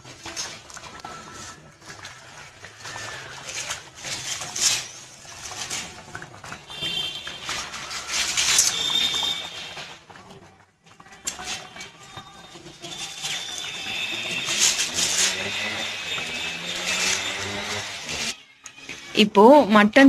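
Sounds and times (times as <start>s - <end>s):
thick gravy bubbling: 0.0s - 18.4s.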